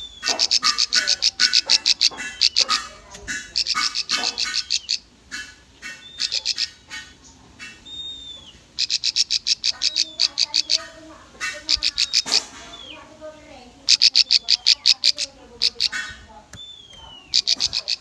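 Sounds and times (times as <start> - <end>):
bird chipping notes: 0.0 - 18.0.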